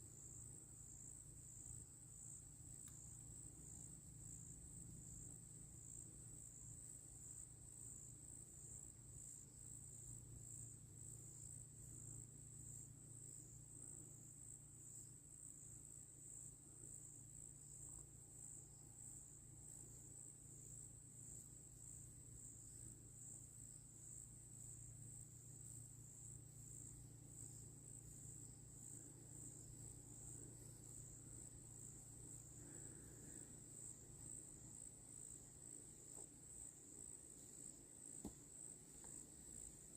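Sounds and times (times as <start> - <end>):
crickets trilling: 0.1 - 39.9.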